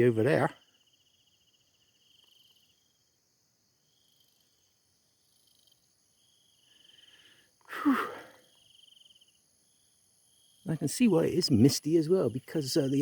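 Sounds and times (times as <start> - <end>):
insect trills: 0.0 - 13.0.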